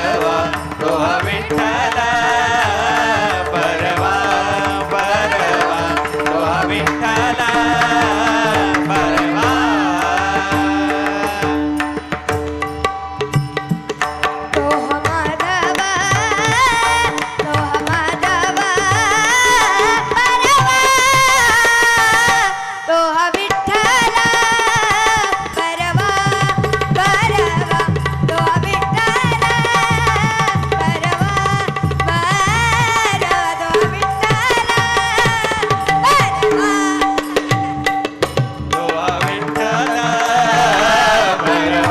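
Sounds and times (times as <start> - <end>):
tabla drumming: 0.0 - 41.9.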